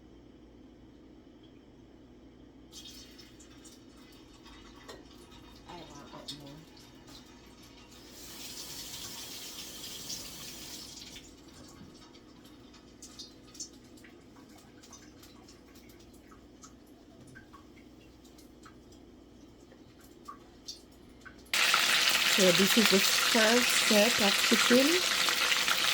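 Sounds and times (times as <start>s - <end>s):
kitchen tap running: 2.8s - 19.0s, 19.7s - 25.9s.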